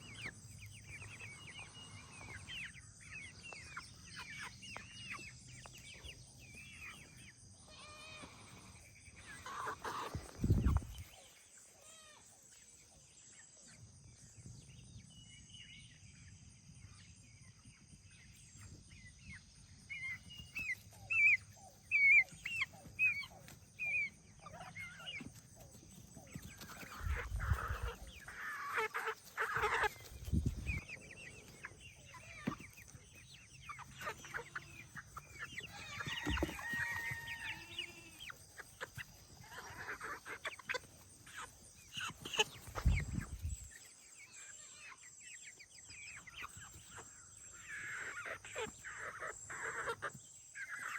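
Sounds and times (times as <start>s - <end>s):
chickens clucking and calling: 0.0s - 50.9s.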